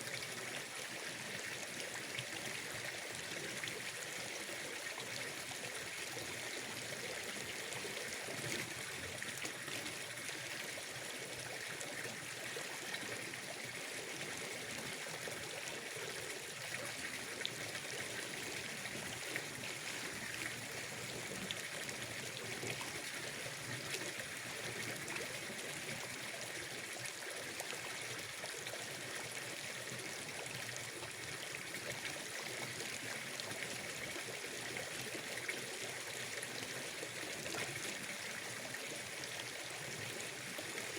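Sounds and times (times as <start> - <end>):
water trickling at a pond: 0.0 - 40.9.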